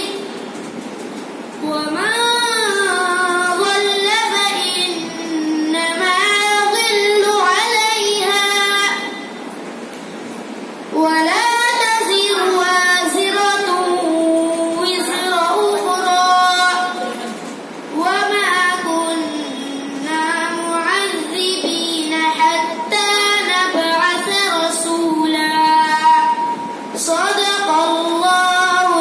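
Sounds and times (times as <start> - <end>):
boy reciting melodically: 0.0 - 0.6, 1.5 - 9.4, 10.9 - 29.0.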